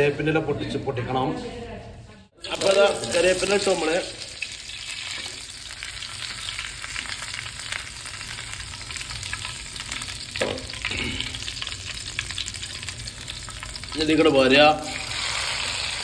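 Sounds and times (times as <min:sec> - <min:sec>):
leaves sizzling in hot oil: 0:02.4 - 0:16.0.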